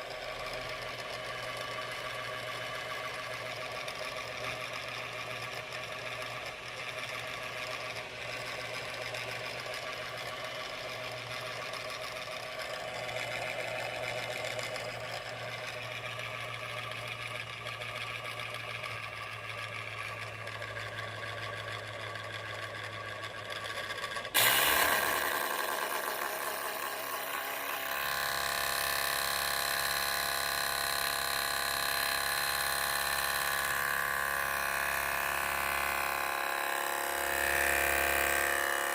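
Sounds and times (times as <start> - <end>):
laptop cooling fan buzzing: 0.0 - 38.9.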